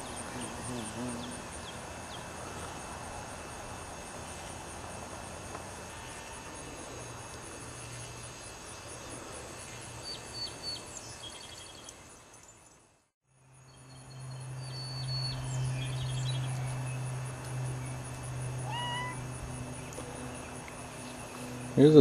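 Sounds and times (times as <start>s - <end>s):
constant high whine: 0.0s - 22.0s
insects chirping: 0.0s - 22.0s.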